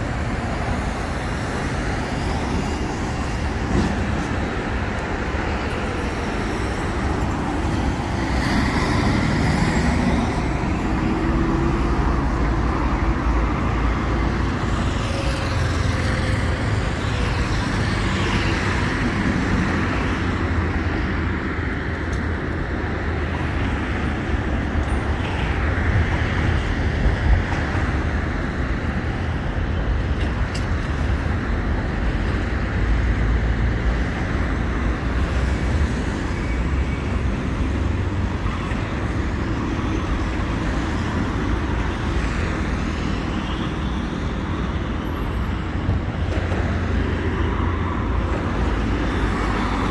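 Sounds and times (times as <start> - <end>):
road traffic rumble: 0.0 - 49.9.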